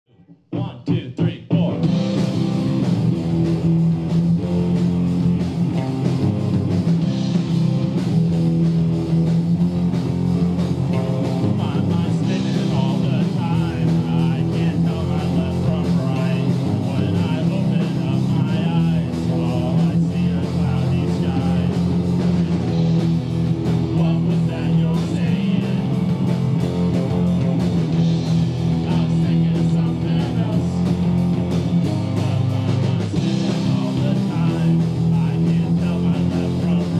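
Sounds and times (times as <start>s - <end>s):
electric guitars: 1.6s - 36.9s
live rock band playing: 1.6s - 36.9s.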